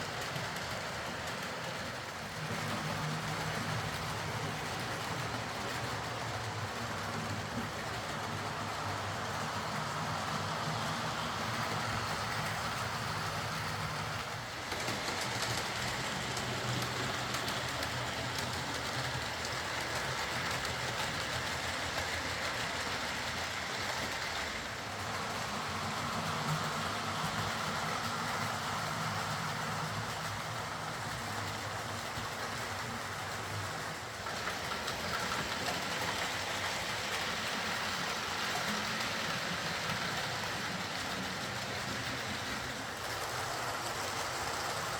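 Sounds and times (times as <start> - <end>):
model locomotive motor whirring: 0.0 - 44.9.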